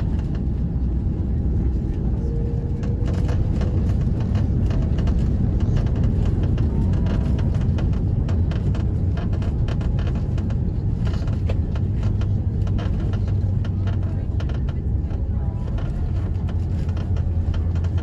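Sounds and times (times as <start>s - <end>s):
airliner cabin rumble: 0.0s - 18.0s
light rattles and clicks: 0.0s - 18.0s.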